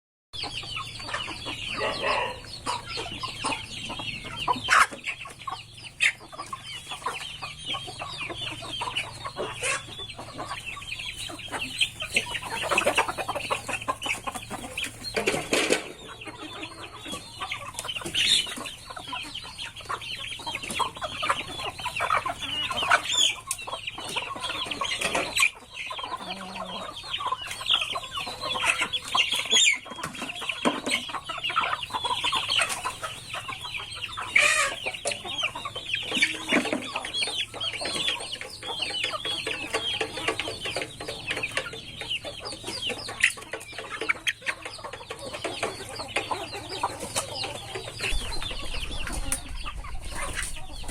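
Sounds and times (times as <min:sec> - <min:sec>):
chickens clucking: 0:00.4 - 0:50.9.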